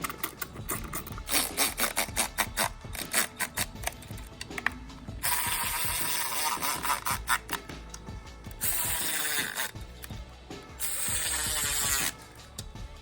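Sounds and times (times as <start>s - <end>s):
ratchet wrench clicking: 0.0s - 12.8s
ratchet wrench whirring: 0.0s - 12.8s.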